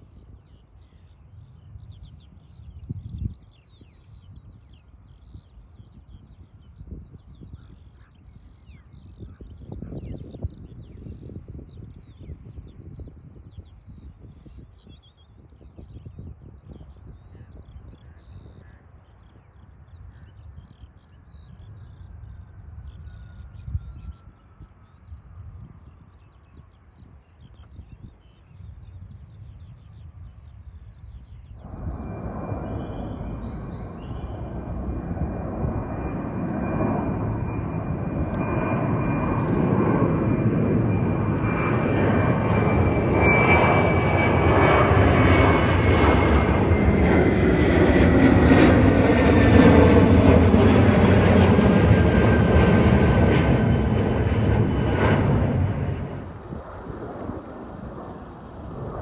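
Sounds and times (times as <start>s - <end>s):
jet airliner flying past: 0.0s - 59.0s
jet engine whine falling in pitch: 8.4s - 59.0s.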